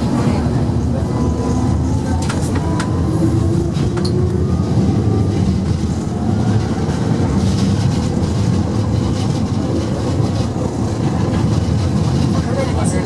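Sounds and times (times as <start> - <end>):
tram wheels rumbling on rail: 0.0 - 13.0.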